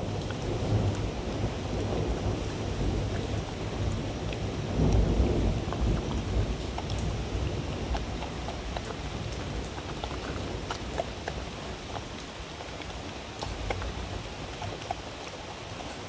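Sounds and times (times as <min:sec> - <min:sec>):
dog chewing and smacking: 0:03.0 - 0:16.0.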